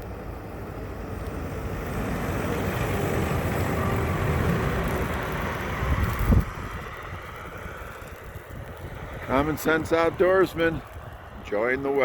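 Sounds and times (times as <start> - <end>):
truck engine and tyre noise: 0.0 - 12.0.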